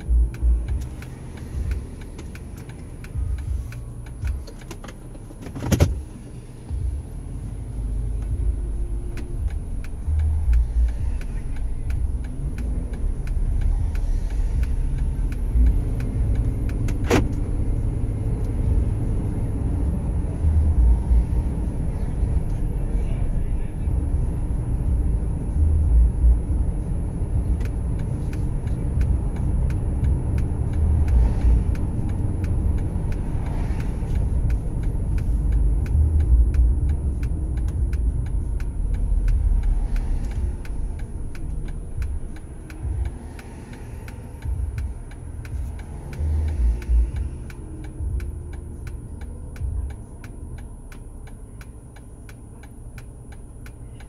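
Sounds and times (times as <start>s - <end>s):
car road noise rumble: 0.0s - 54.0s
light steady ticking: 0.0s - 54.0s.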